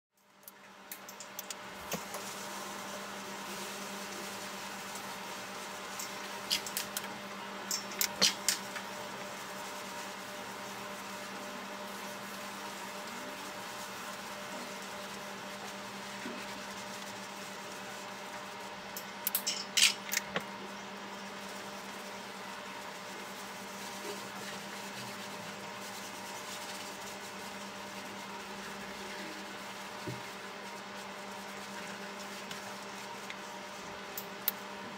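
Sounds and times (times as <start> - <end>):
low room hum: 0.2 - 34.9.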